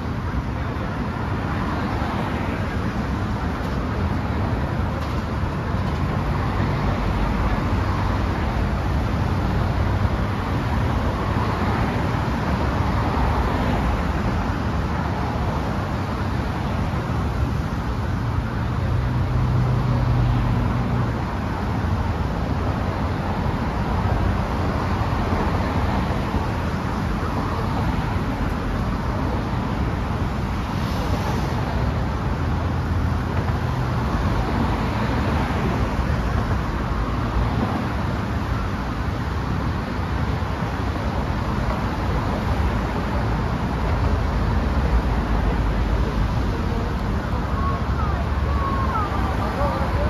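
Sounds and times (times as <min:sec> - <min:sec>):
road traffic rumble: 0:00.0 - 0:50.0.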